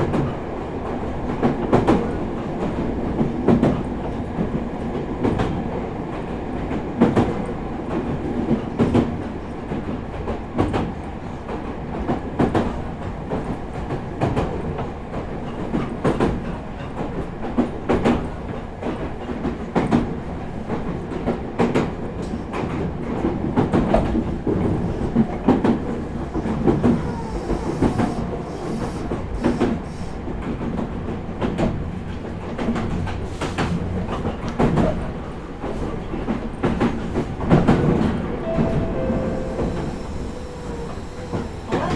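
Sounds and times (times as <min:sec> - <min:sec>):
train rolling rumble: 0:00.0 - 0:41.9.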